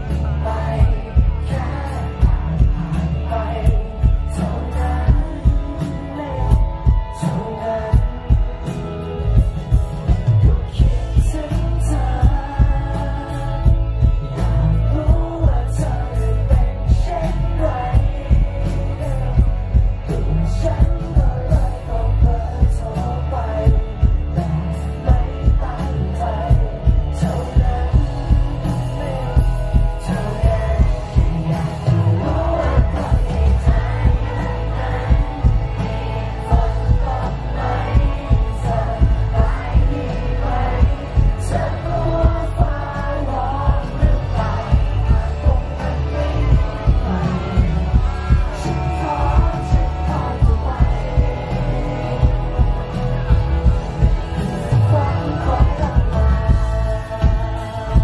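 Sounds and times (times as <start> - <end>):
live rock band playing: 0.0 - 58.0
man singing: 0.0 - 58.0.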